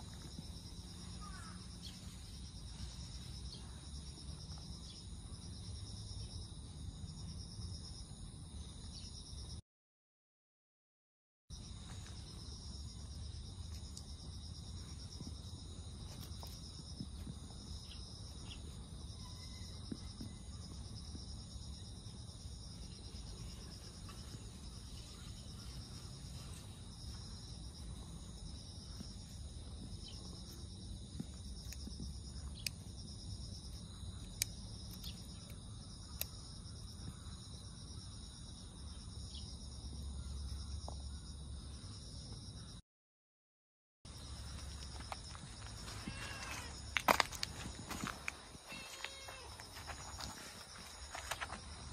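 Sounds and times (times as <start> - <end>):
insects trilling: 0.0 - 9.5, 11.6 - 42.8, 44.1 - 51.9.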